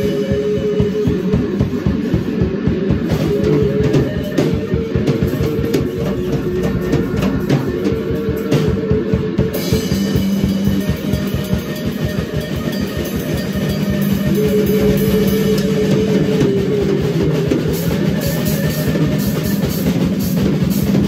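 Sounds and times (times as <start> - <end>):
droning electric guitar: 0.0 - 21.0
drum kit with cymbals: 0.0 - 21.0.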